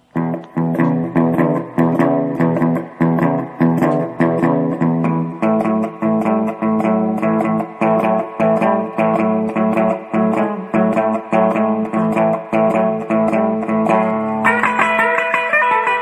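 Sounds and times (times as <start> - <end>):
guitar-led tune with bass: 0.0 - 16.0
higher guitar line: 0.0 - 16.0.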